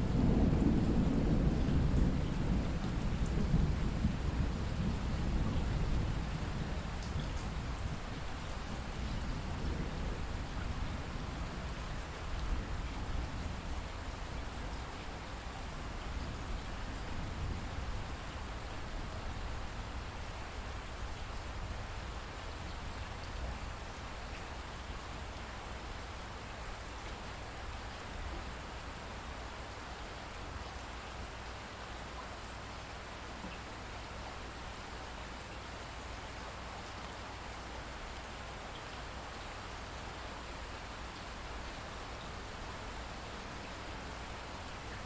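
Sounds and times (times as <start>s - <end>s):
steady rainfall: 0.0s - 45.0s.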